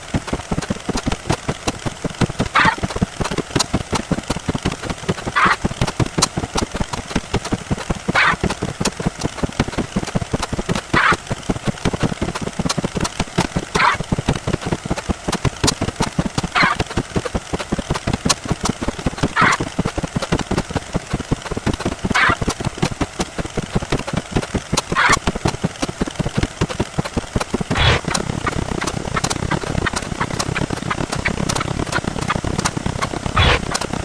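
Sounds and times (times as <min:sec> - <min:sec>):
rapid clicks and thumps: 0:00.0 - 0:34.0.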